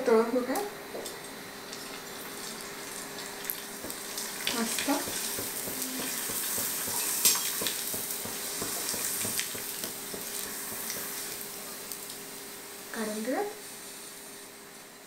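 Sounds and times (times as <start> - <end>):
oil sizzling: 0.9 - 15.0.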